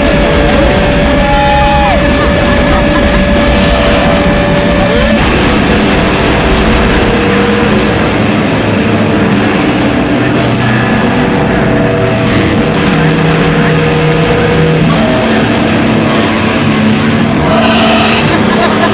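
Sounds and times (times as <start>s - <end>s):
crowd noise: 0.0s - 18.9s
distorted amplified music: 0.0s - 18.9s.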